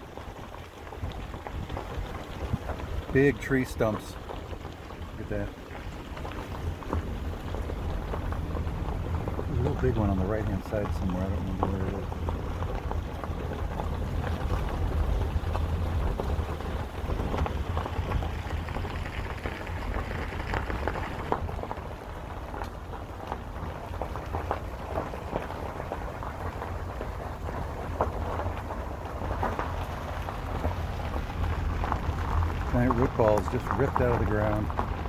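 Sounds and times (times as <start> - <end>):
car interior low rumble: 0.0 - 35.0
tyres crackling on road: 0.0 - 35.0.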